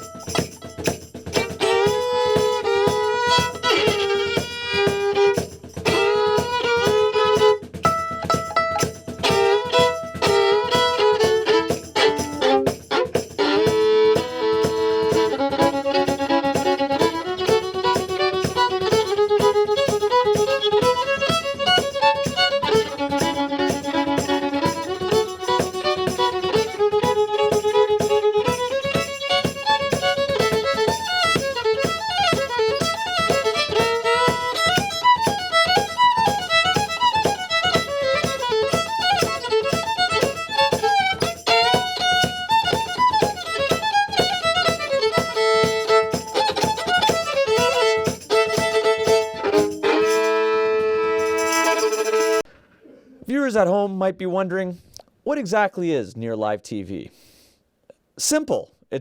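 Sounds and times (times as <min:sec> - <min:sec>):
fiddle playing a tune: 0:00.0 - 0:52.5.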